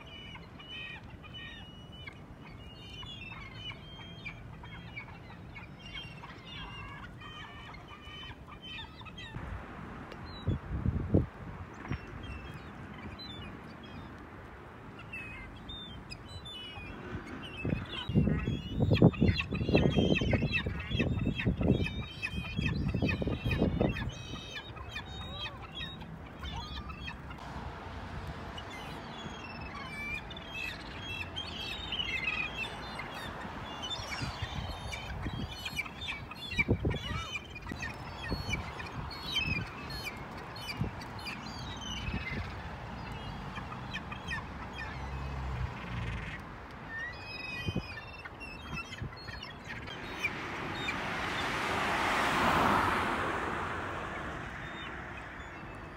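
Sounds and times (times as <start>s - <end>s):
gulls calling: 0.0s - 9.5s, 14.9s - 55.9s.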